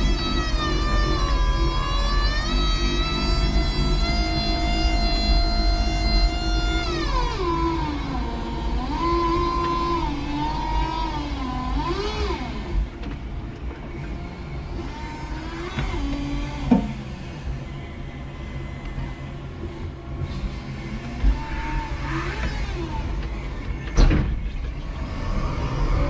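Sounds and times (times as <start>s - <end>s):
electric forklift motors whining: 0.0s - 26.0s.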